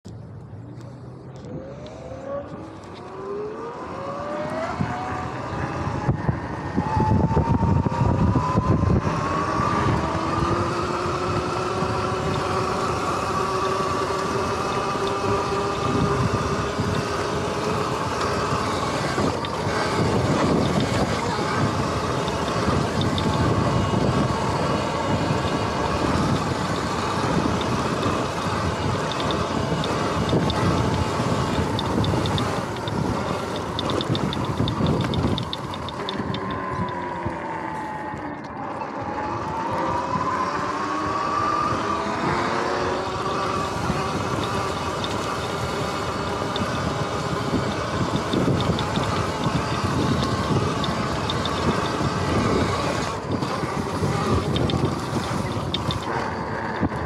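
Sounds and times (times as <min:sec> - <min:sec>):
electric motor whining: 0:01.4 - 0:57.0
wind buffeting microphone: 0:04.6 - 0:38.1, 0:39.0 - 0:57.0.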